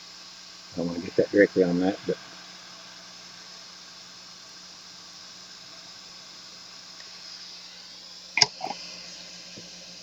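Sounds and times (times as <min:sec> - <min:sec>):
hot air fan hissing: 0:00.0 - 0:10.0.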